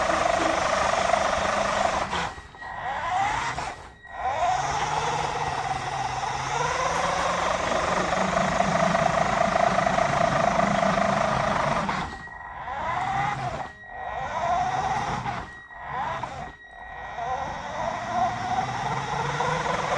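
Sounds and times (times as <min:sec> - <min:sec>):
toy car motor whining: 0:00.0 - 0:19.9.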